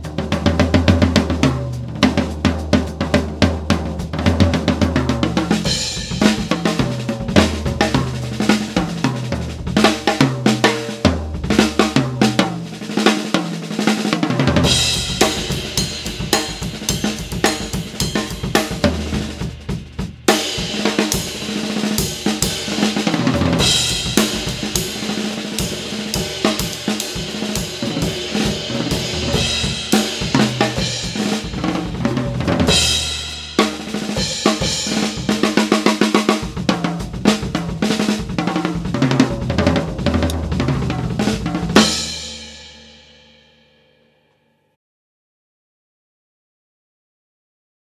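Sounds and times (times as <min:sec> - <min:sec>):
drum kit groove: 0:00.0 - 0:43.4.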